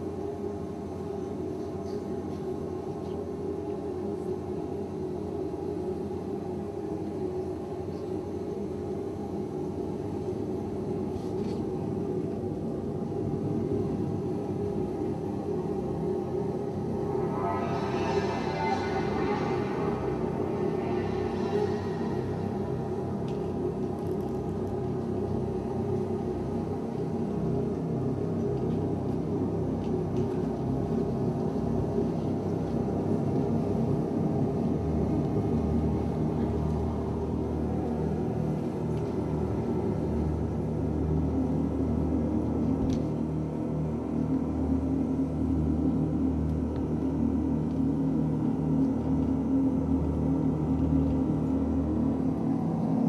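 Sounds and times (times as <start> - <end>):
dark ambient electronic drone: 0.0 - 53.0.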